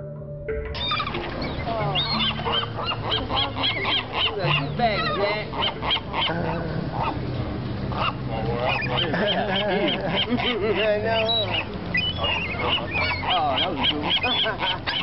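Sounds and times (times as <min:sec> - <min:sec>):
soft background music: 0:00.0 - 0:15.0
gulls and geese calling: 0:00.7 - 0:15.0.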